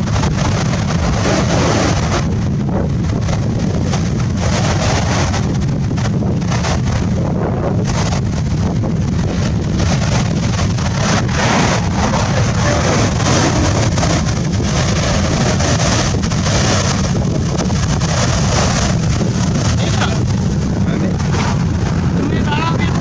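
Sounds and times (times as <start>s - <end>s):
rough sea waves: 0.0s - 23.0s
wind buffeting microphone: 0.0s - 23.0s.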